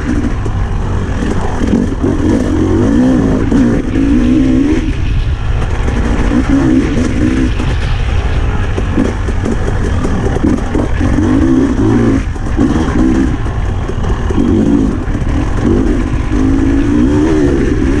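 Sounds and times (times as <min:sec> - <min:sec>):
dirt bike engine revving: 0:00.0 - 0:07.8, 0:08.8 - 0:18.0.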